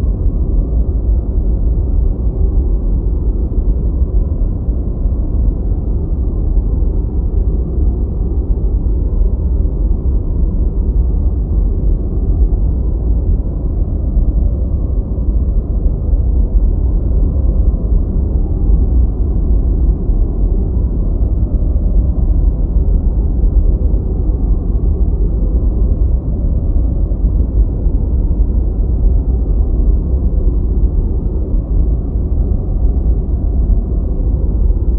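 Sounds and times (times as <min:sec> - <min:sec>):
deep white noise: 0:00.0 - 0:34.9.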